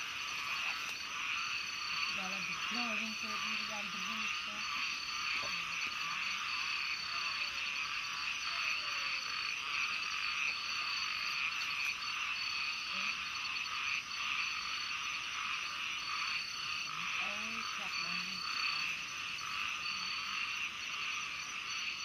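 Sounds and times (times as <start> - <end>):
frogs croaking and trilling: 0.0 - 22.0.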